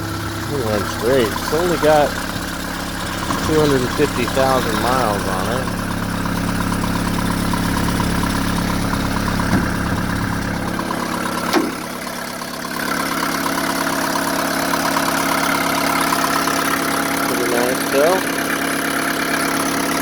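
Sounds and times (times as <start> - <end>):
diesel engine idling: 0.0 - 20.0
engine clicks: 0.0 - 20.0.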